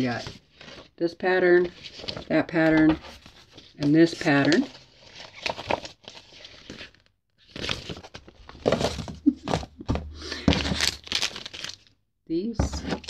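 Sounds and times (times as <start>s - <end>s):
paper rustling and crinkling: 0.0s - 1.0s, 1.6s - 11.8s.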